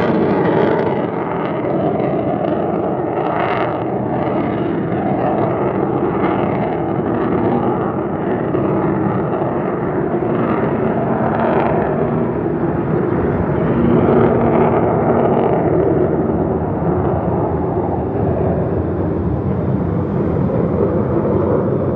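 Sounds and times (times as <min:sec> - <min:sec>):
jet engine rushing rumble: 0:00.0 - 0:21.9.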